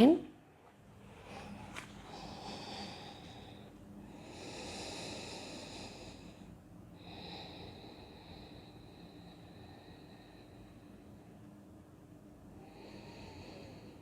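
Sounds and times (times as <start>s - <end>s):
slow breathing: 1.0s - 11.5s, 12.5s - 14.0s.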